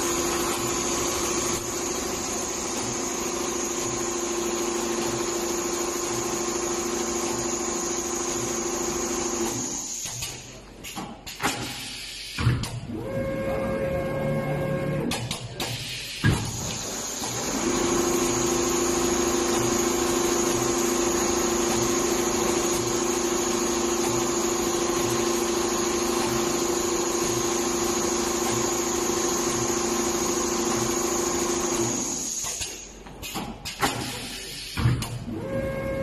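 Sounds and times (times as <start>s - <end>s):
sewing machine motor hum and whine: 0.0s - 10.0s, 12.9s - 15.2s, 16.6s - 32.4s, 35.2s - 36.0s.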